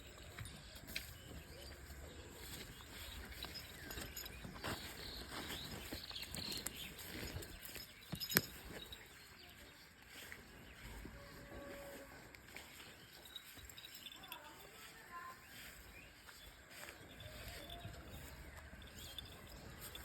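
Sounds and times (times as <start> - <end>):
knocks and shuffling: 0.0 - 20.0.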